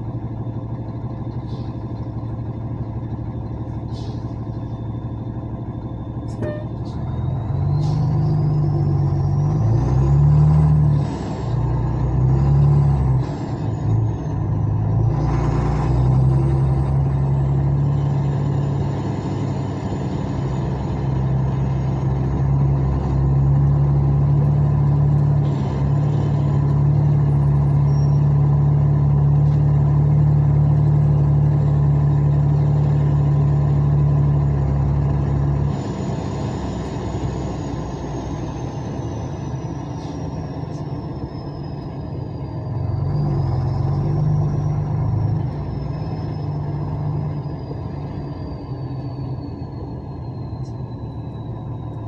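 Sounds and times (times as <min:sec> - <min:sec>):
truck diesel engine drone: 0:00.0 - 0:52.0.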